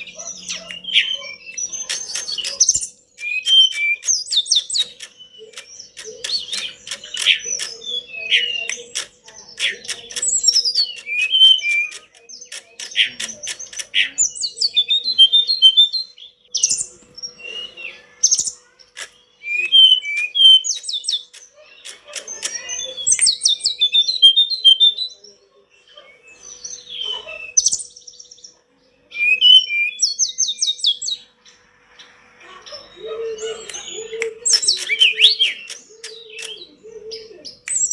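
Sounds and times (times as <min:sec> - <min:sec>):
bird singing whistles and trills: 0:00.0 - 0:18.6, 0:19.2 - 0:25.2, 0:25.8 - 0:28.5, 0:29.1 - 0:31.6, 0:32.8 - 0:37.9.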